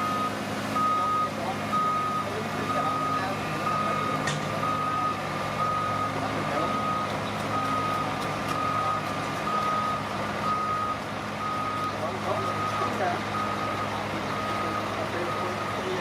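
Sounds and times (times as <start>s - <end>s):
diesel engine running: 0.0s - 16.0s
reversing alarm beeping: 0.0s - 16.0s.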